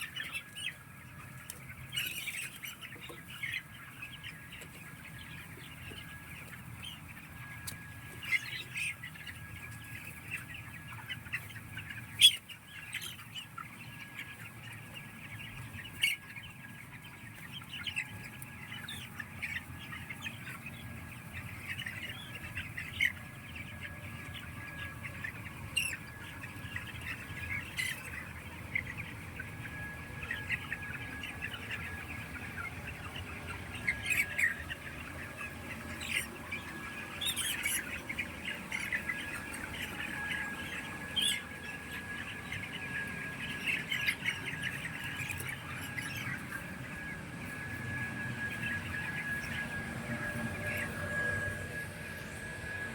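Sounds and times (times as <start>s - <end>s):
chickens chirping and clucking: 0.0s - 52.9s
chickens squawking: 0.0s - 52.9s
steady low hum: 0.0s - 52.9s.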